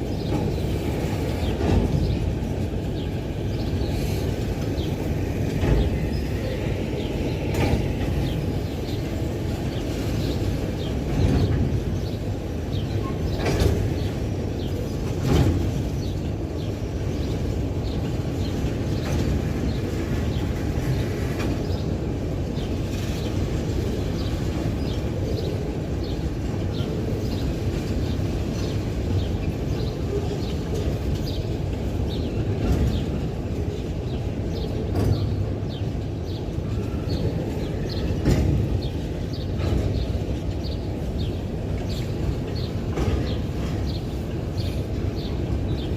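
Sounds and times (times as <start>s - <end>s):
freight train rumbling by: 0.0s - 45.9s
wheels and couplings clanking: 0.0s - 45.9s.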